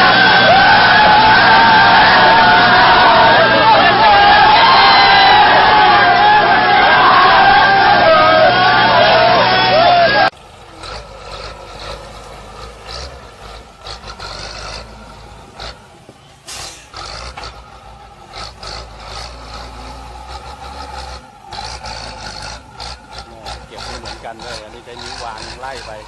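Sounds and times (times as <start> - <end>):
construction machinery engine drone: 0.0 - 26.0.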